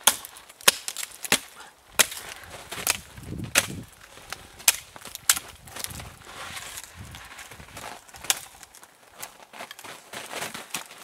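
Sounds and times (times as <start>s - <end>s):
dry branches snapping: 0.0s - 11.0s.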